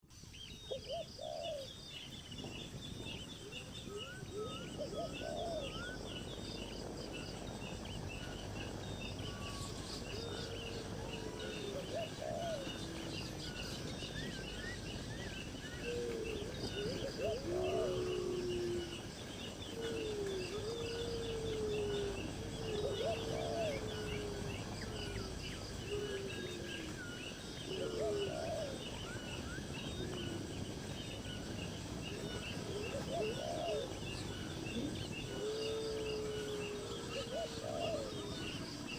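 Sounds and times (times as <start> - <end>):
birds chirping: 0.0 - 38.9
steady background hiss: 0.0 - 38.9.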